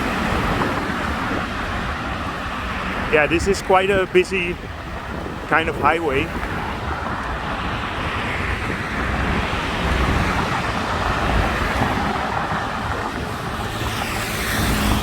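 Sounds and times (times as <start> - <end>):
highway traffic rush: 0.0 - 15.0.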